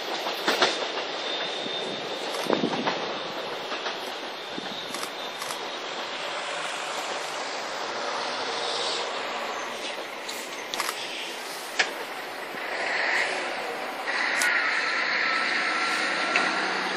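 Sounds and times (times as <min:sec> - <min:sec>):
train wheels on rail: 0:00.0 - 0:16.9.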